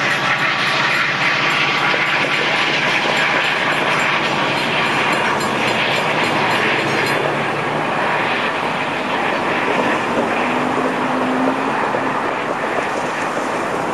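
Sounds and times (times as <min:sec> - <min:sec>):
train rumble and wheel clatter: 0:00.0 - 0:13.9.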